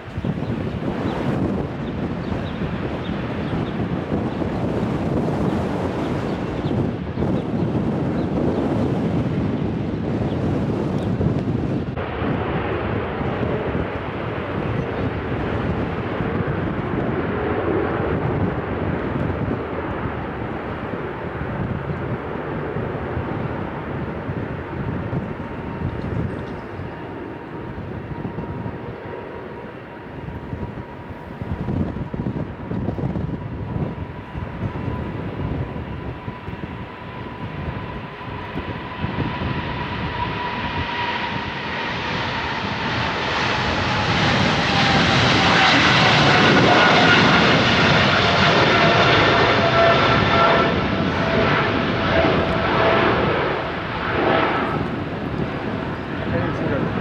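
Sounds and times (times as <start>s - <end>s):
jet engine whine: 0.0s - 57.0s
wind buffeting microphone: 0.0s - 57.0s.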